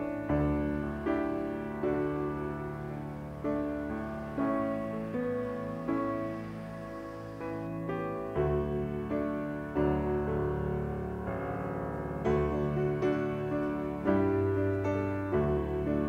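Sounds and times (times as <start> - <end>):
soft solo piano chords: 0.0 - 16.0.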